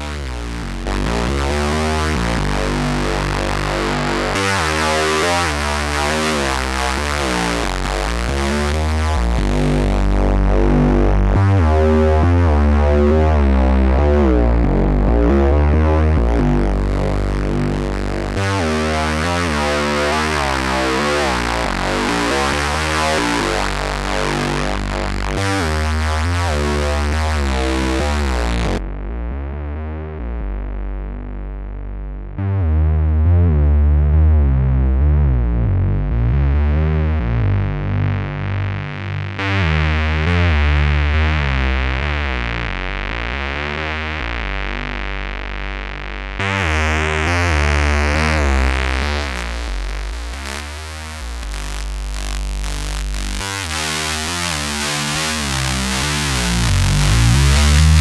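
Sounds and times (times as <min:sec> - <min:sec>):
synthesizer acid bass sequence: 0:00.0 - 0:58.0.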